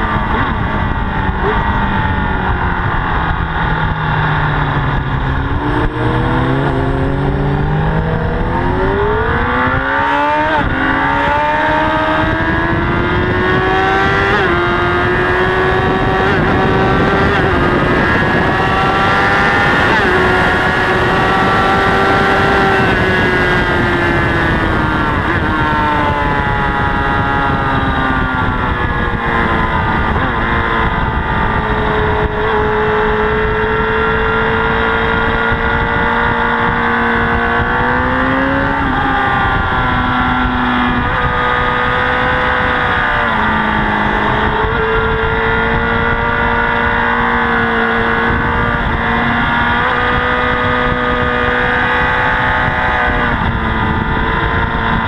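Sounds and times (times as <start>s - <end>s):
motorcycle engine running hard: 0.0s - 55.0s
wind noise on microphone: 0.0s - 55.0s.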